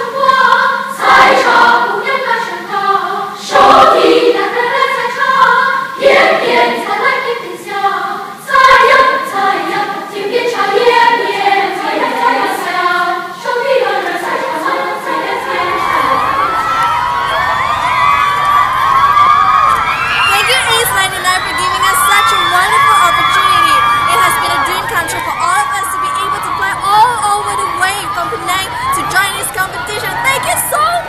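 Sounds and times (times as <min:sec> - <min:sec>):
choir singing: 0:00.0 - 0:31.0.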